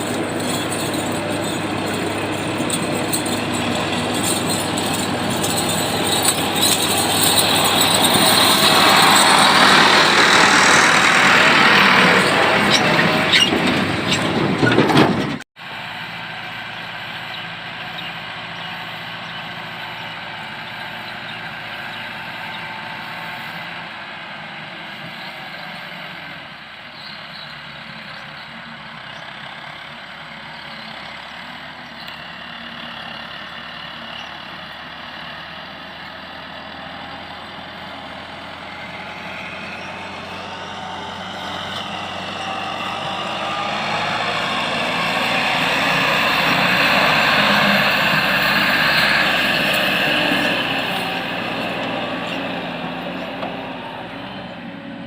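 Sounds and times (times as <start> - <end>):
heavy farm machinery running: 0.0 - 55.0.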